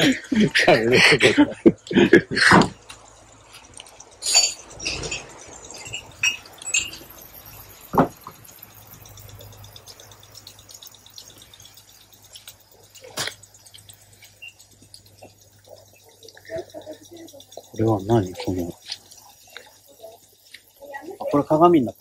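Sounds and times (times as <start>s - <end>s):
light clinks: 0.0s - 22.0s.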